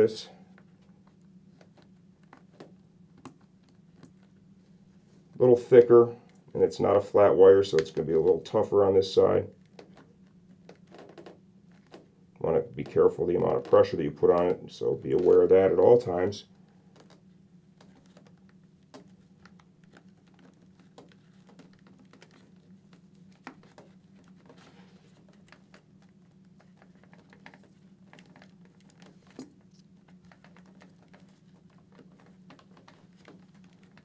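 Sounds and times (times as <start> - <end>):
light clicks and scratches: 0.0 - 34.0
low steady hum: 0.0 - 34.0.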